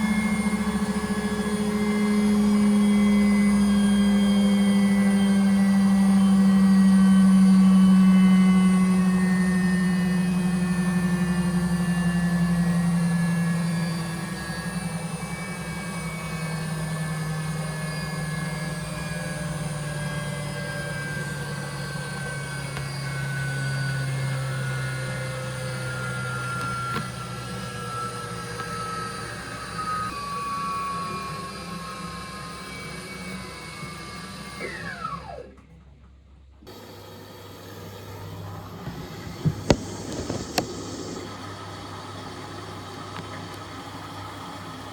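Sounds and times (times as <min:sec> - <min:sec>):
washing machine motor whine falling: 0:00.0 - 0:35.6, 0:36.7 - 0:44.9.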